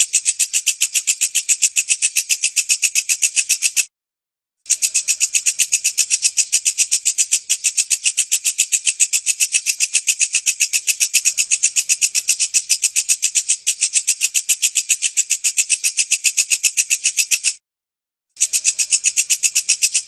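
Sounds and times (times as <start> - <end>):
insect shrill chirping pulses: 0.0 - 3.8, 4.7 - 17.6, 18.4 - 20.0.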